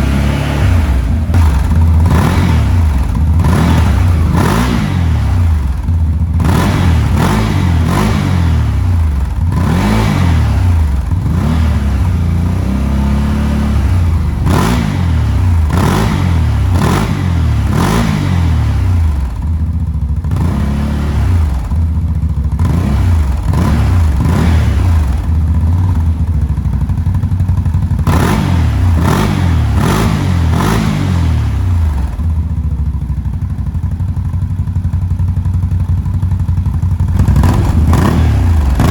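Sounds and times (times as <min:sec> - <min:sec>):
atv engine revving and idling: 0:00.0 - 0:38.9.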